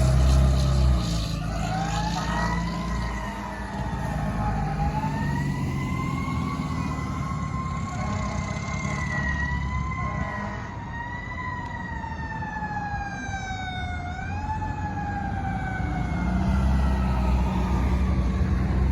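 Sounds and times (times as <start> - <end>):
fire engine siren wailing: 0.0 - 18.9
fire truck engine rumble: 0.0 - 18.9.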